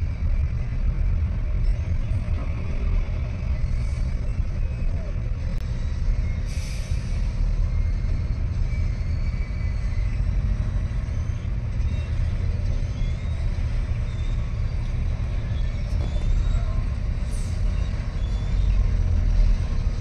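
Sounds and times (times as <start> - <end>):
excavator engine rumbling: 0.0 - 20.0
wheel loader running: 0.0 - 20.0.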